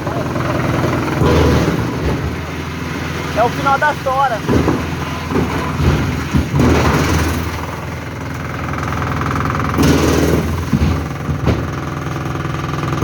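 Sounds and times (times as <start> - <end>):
wood chipper engine running: 0.0 - 13.0
wood cracking: 1.0 - 12.5.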